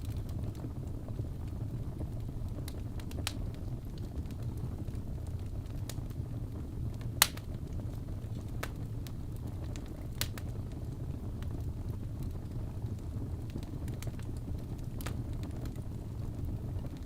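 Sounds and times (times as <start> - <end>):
fire popping and crackling: 0.0 - 17.0
logs burning in fireplace: 0.0 - 17.0.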